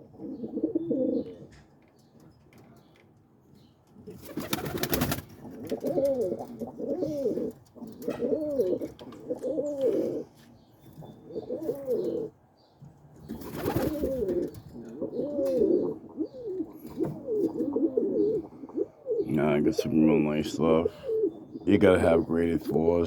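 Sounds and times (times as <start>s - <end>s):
pigeons cooing: 0.0s - 1.6s, 4.0s - 12.4s, 13.2s - 23.0s.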